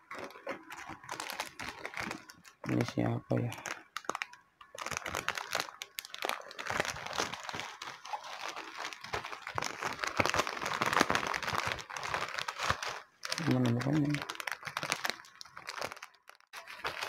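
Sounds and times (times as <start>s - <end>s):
plastic wrapper crinkling: 0.0s - 17.0s.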